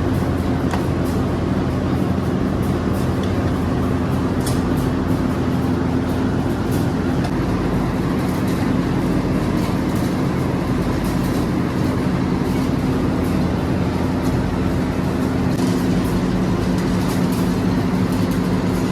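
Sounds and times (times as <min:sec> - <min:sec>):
factory machinery drone: 0:00.0 - 0:18.9.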